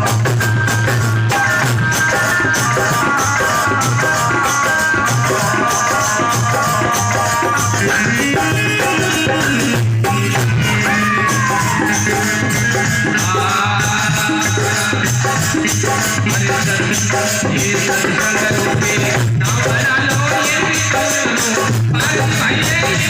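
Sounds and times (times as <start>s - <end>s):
fast drum rhythm: 0.0s - 23.0s.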